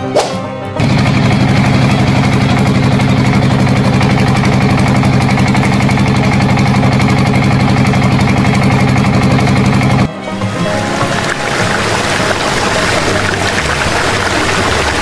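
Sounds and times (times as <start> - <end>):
diesel tractor engine idling: 0.8 - 15.0.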